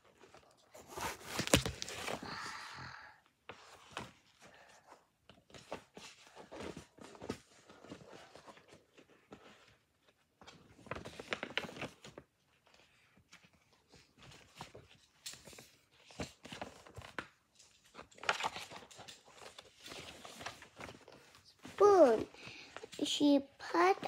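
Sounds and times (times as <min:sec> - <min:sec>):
book pages rustling: 0:00.0 - 0:24.0.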